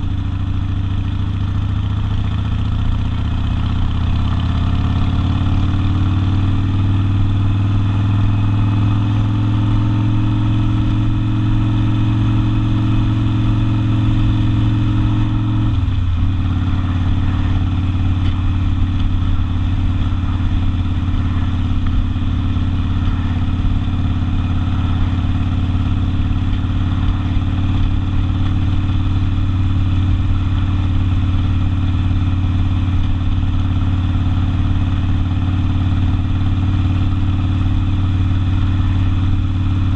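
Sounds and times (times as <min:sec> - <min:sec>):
motorcycle engine through open exhaust: 0:00.0 - 0:39.9.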